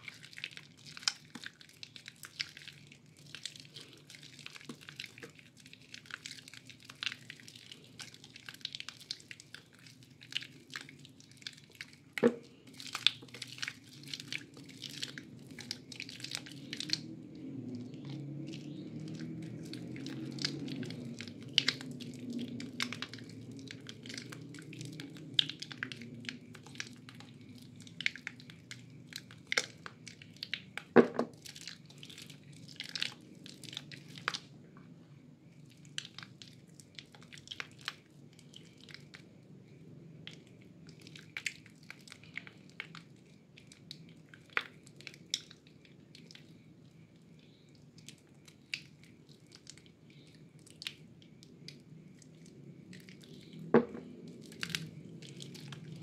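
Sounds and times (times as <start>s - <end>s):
wet soap squelching and crackling: 0.0s - 56.0s.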